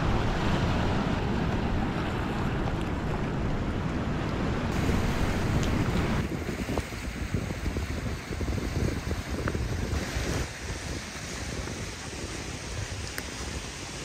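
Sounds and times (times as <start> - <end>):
surf on rocky shore: 0.0 - 14.0
wind buffeting microphone: 0.0 - 14.0.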